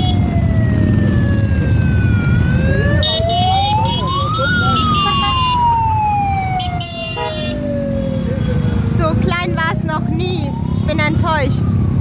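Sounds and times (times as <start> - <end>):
emergency vehicle siren wailing: 0.0 - 12.0
motorcycle engines riding past: 0.0 - 12.0.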